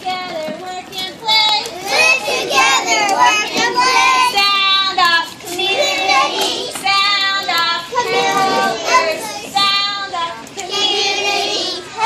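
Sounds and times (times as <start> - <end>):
children singing: 0.9 - 12.0.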